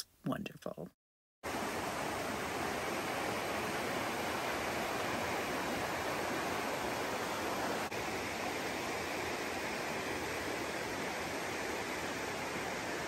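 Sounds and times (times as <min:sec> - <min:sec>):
creek water flowing: 0:01.5 - 0:13.0.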